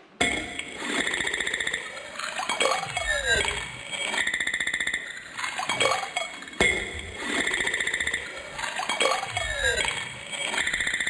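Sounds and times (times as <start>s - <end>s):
glassy chiming pulses: 0.2s - 11.0s
sweeping electronic tones: 0.2s - 11.0s.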